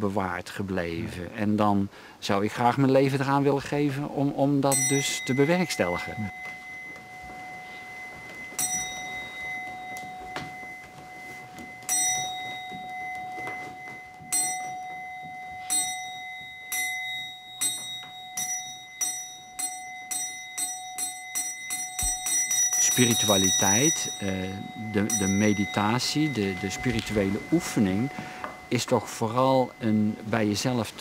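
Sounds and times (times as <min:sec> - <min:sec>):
steady ringing tone: 0:04.6 - 0:31.0
metal temple bell strikes: 0:04.7 - 0:31.0.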